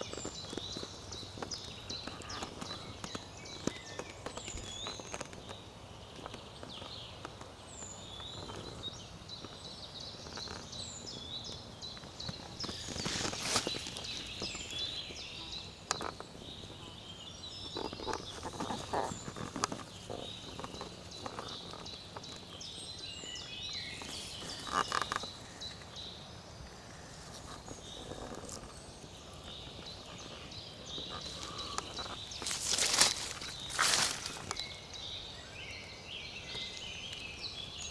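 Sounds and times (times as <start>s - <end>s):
rustling in undergrowth: 0.0s - 37.9s
small birds chirping: 0.0s - 37.9s.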